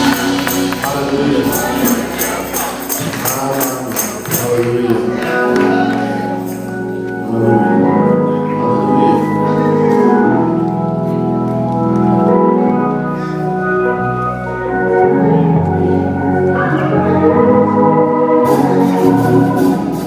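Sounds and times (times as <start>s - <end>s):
low bass line: 0.0s - 20.0s
organ playing chords: 0.0s - 20.0s.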